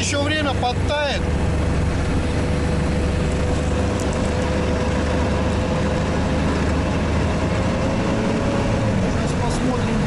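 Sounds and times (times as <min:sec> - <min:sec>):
diesel engine drone with whine: 0:00.0 - 0:10.0.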